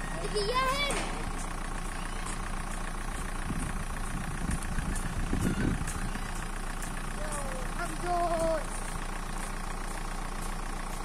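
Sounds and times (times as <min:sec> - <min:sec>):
engine idling hum: 0:00.0 - 0:11.0
low rumbles: 0:00.0 - 0:11.0.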